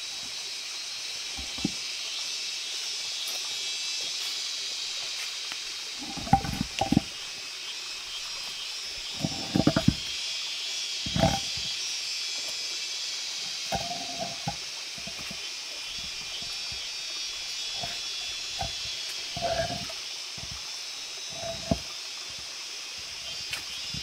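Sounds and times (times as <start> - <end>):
steady high-pitched hiss: 0.0 - 24.0.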